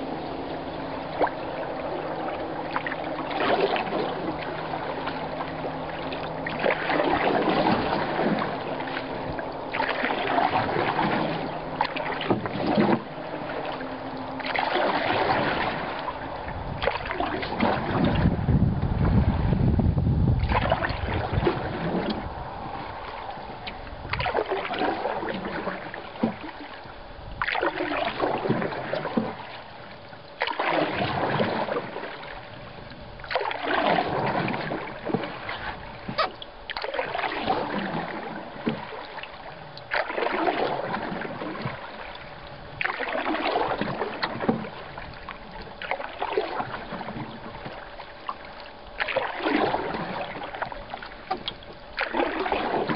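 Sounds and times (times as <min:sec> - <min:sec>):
water swishing past canoe paddle: 0:00.0 - 0:52.9.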